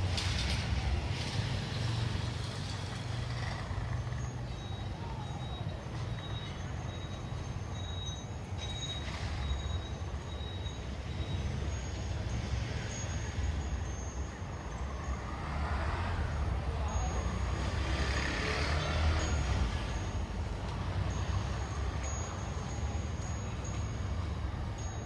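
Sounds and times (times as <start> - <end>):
traffic engines rumbling: 0.0 - 25.0.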